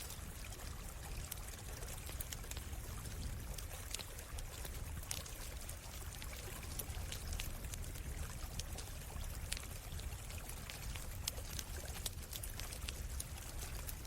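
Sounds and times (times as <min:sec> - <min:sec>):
campfire crackling and popping: 0:00.0 - 0:14.0
stream flowing: 0:00.0 - 0:14.0.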